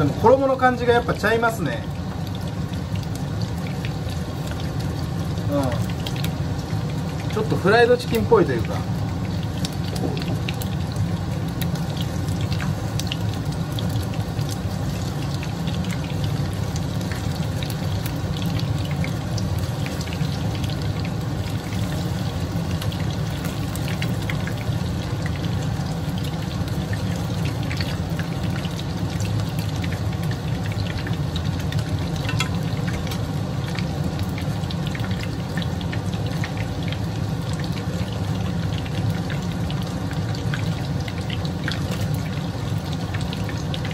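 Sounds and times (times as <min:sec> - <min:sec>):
deep-frying sizzle and pops: 0:00.0 - 0:43.9.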